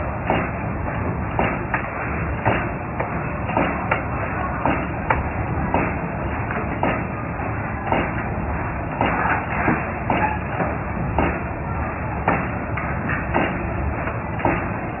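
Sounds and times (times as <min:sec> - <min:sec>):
binding machine running: 0:00.0 - 0:15.0
sharp mechanical clacks: 0:00.2 - 0:15.0.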